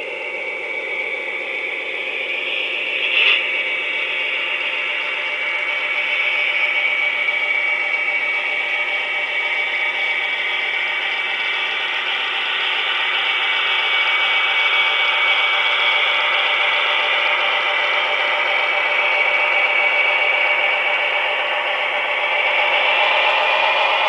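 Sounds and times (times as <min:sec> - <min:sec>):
tinny diesel engine sound: 0:00.0 - 0:24.0.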